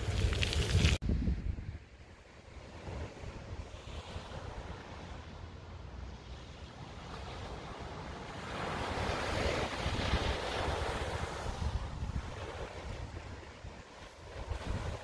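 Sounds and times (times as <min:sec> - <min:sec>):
sea waves washing onto beach: 0:00.0 - 0:01.0, 0:02.7 - 0:15.0
wind rumbling on microphone: 0:00.0 - 0:15.0.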